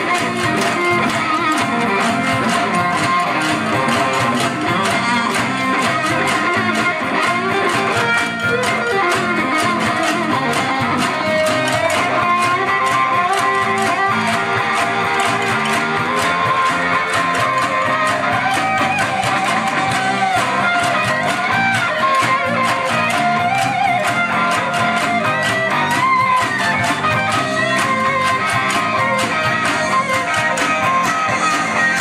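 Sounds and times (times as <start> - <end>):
live rock band playing: 0.0 - 32.0.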